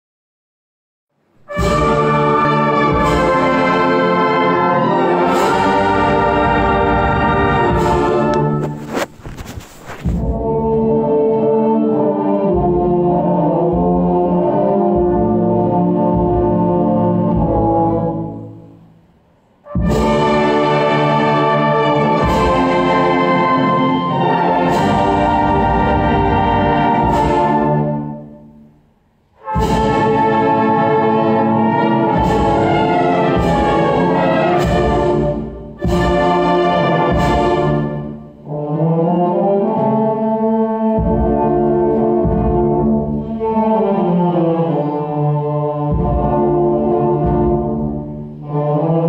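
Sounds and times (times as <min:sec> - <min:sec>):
brass band playing funeral march: 0:01.4 - 0:18.8, 0:19.6 - 0:28.6, 0:29.4 - 0:49.0.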